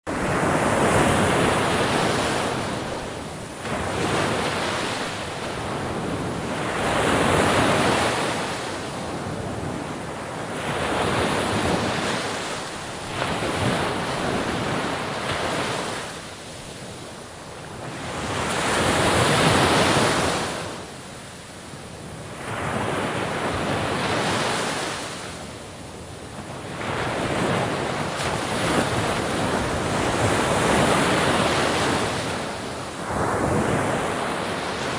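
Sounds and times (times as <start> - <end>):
ocean waves breaking: 0.1 - 21.2, 26.3 - 34.9.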